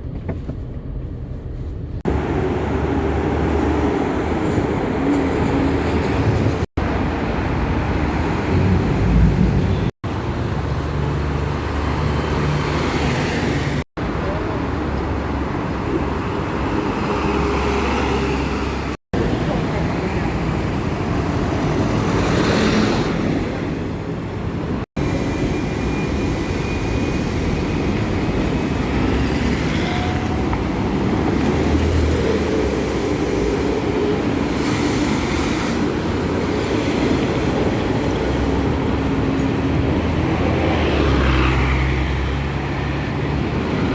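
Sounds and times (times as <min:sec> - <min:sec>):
trucks driving past: 0:02.1 - 0:29.8, 0:30.4 - 0:43.9.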